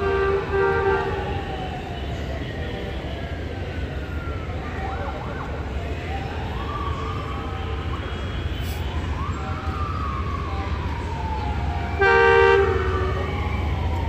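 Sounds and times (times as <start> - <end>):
siren wailing: 0.1 - 14.0.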